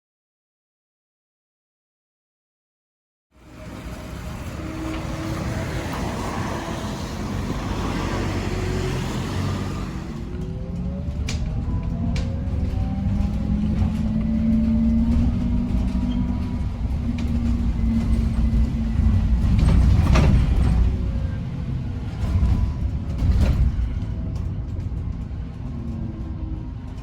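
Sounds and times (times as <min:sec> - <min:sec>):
bus running rumble: 0:03.4 - 0:27.0.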